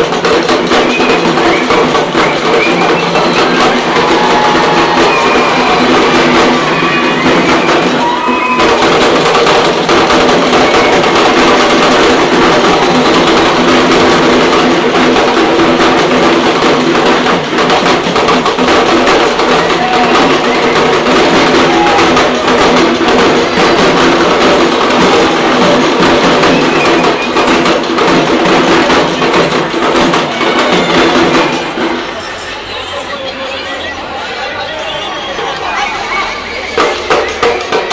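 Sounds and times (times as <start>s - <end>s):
frame drums beaten with sticks: 0.0s - 32.2s, 36.7s - 37.9s.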